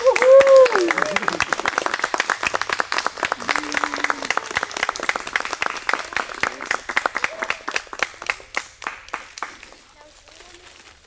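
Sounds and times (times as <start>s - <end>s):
people applauding: 0.0s - 10.0s.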